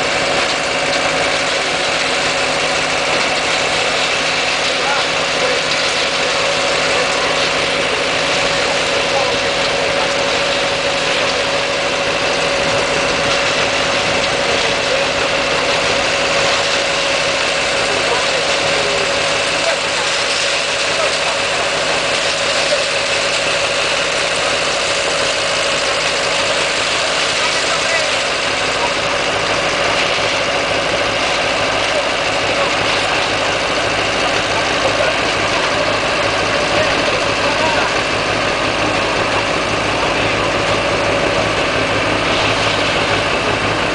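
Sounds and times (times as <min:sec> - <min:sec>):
machinery engine drone: 0:00.0 - 0:43.9
steady machine whine: 0:00.0 - 0:43.9.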